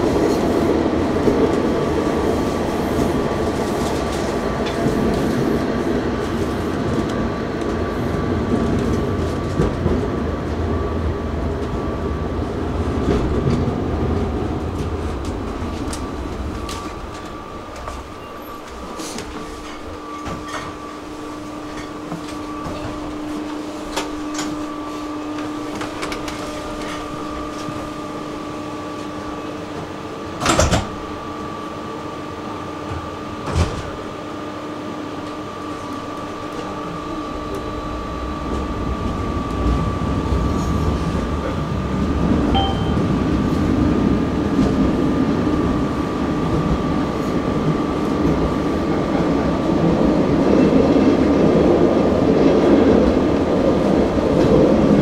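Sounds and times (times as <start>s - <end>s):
tram wheel and motor rumble: 0.0s - 55.0s.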